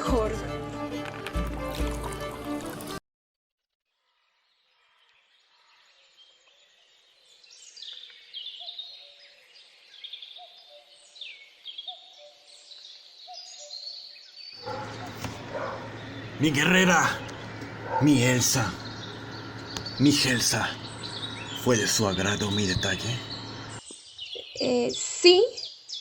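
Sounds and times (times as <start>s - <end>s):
birds chirping: 4.9s - 26.0s.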